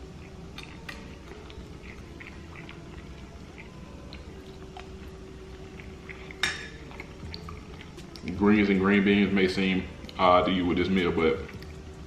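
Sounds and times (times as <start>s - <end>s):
person chewing: 0.0s - 8.4s, 9.8s - 10.3s, 11.0s - 12.0s
low steady hum: 0.0s - 12.0s.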